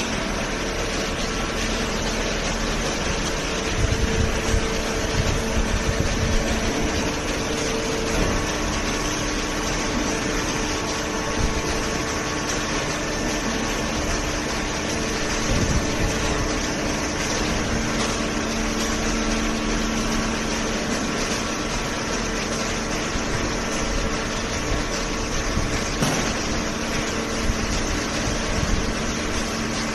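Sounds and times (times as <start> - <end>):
baler and conveyor humming: 0.0 - 29.9.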